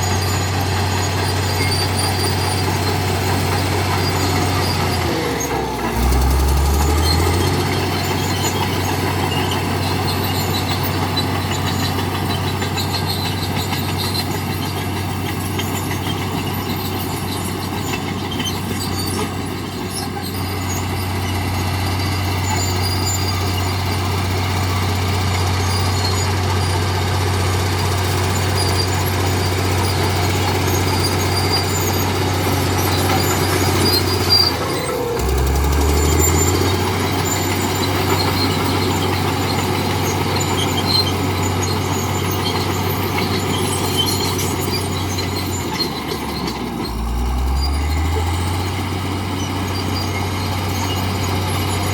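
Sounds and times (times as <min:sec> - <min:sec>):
bulldozer diesel engine running: 0:00.0 - 0:51.9.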